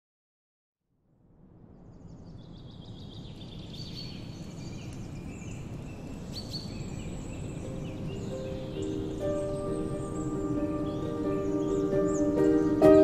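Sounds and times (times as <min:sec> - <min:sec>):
birds chirping and singing: 0:02.0 - 0:13.0.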